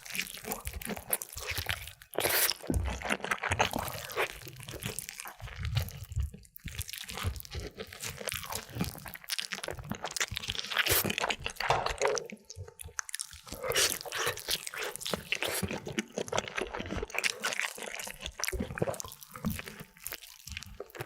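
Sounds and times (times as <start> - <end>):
crunchy food chewing: 0.0 - 21.0.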